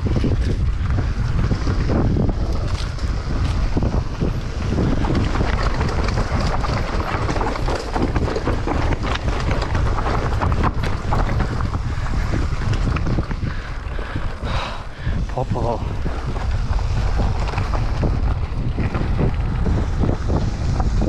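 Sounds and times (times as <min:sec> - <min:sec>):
mountain bike rolling on rough trail: 0:00.0 - 0:21.0
wind buffeting microphone: 0:00.0 - 0:21.0
small knocks and clicks from bike: 0:00.1 - 0:14.5, 0:16.0 - 0:20.5.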